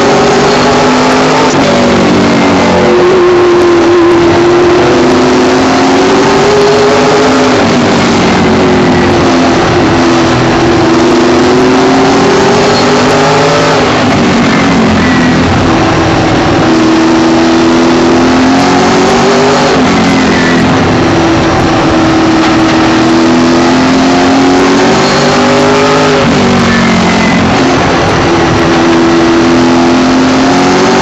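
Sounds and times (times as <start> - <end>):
race car engine at speed: 0.0 - 31.0.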